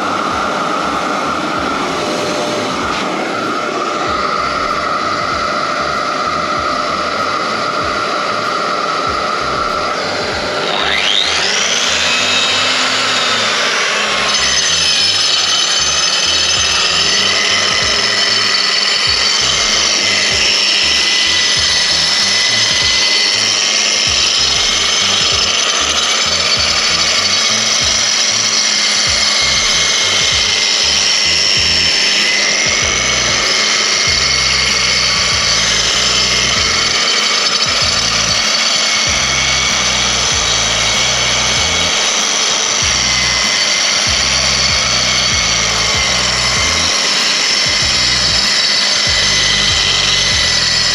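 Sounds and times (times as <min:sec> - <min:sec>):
sander motor whine: 0:00.0 - 0:50.9.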